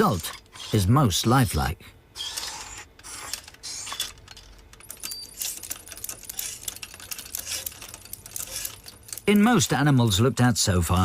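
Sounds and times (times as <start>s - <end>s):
small mechanical clicks: 0.0s - 1.4s, 2.2s - 10.4s.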